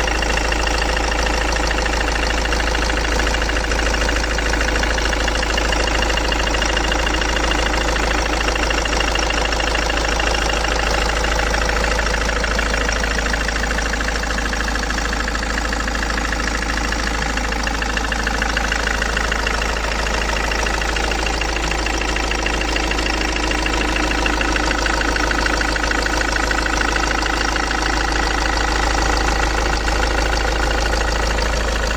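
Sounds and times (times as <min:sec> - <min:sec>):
diesel engine running: 0:00.0 - 0:31.9
rapid regular engine knock: 0:00.0 - 0:31.9.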